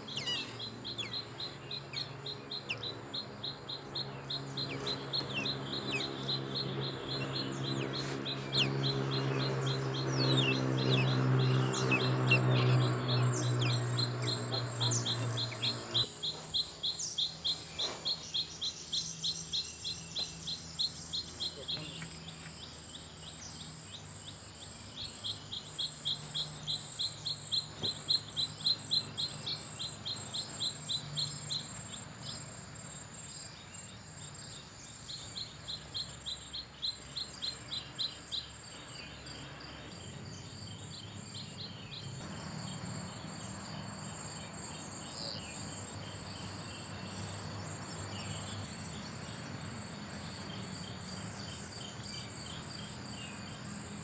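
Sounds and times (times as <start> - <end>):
insect drone: 0.0 - 54.0
rapid high insect chirps: 0.0 - 54.0.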